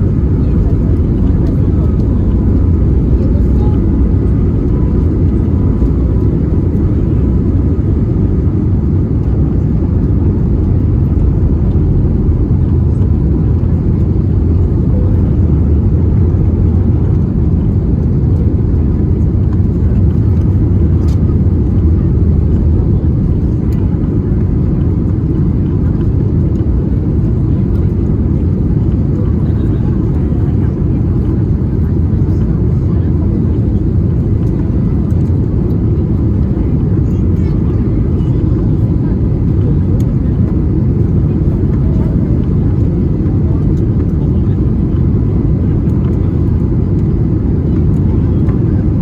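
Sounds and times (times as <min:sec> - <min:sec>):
jet engine rumble in cabin: 0:00.0 - 0:49.0.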